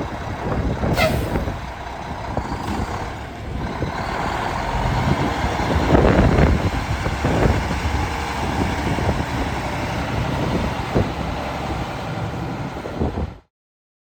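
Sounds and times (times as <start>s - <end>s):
diesel truck engine running: 0.0s - 13.4s.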